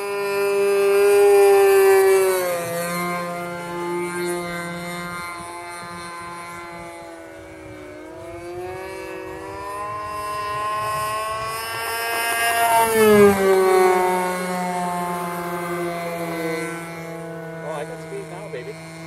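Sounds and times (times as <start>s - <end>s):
model airplane motor whining: 0.0s - 19.0s
steady low hum: 0.0s - 19.0s.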